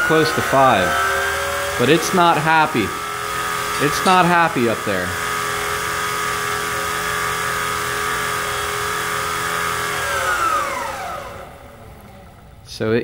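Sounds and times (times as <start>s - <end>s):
milling machine motor running: 0.0s - 12.7s.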